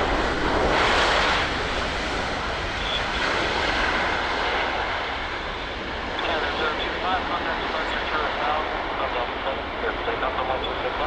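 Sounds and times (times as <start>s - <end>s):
jet airliner engines: 0.0s - 11.0s.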